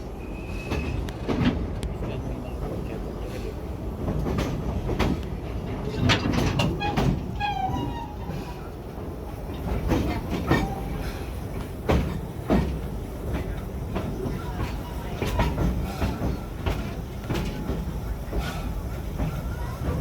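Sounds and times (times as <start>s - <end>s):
train low rumble: 0.0s - 20.0s
train wheel clacks: 0.5s - 20.0s.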